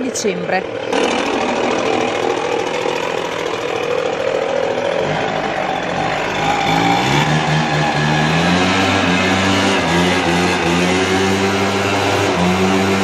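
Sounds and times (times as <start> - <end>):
leaf blower engine running: 0.0 - 13.0.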